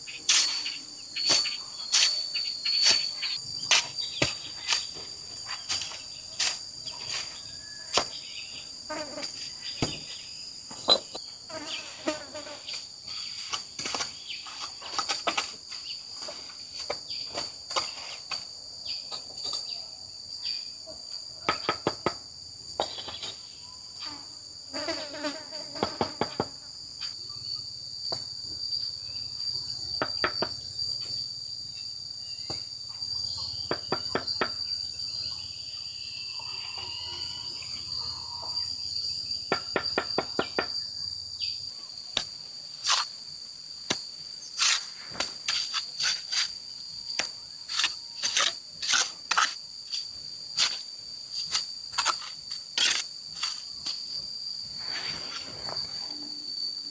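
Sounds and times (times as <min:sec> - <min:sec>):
insect chorus trilling: 0:00.0 - 0:56.9.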